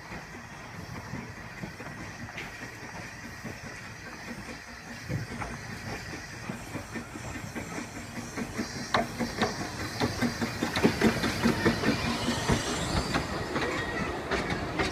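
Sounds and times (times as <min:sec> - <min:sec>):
steam train clicking over track: 0:00.0 - 0:14.9.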